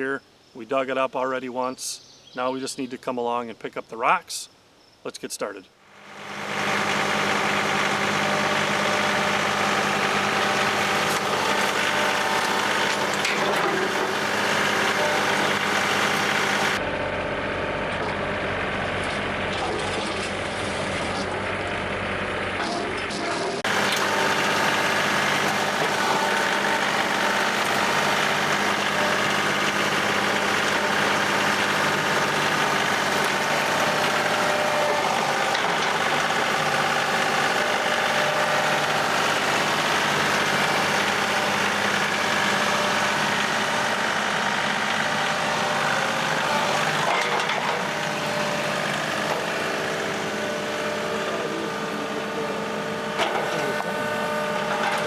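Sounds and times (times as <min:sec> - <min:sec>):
tractor diesel engine running: 0:05.9 - 0:55.0.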